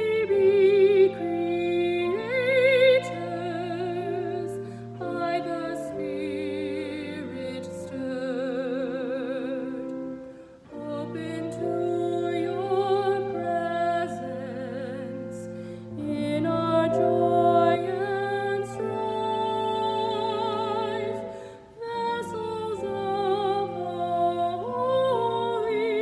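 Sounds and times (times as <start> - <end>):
person singing with vibrato: 0.0 - 26.0
sustained musical accompaniment: 0.0 - 26.0.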